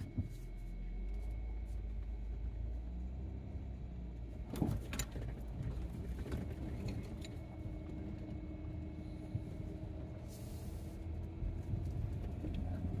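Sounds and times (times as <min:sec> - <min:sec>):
van engine and tyres rumbling: 0:00.0 - 0:13.0.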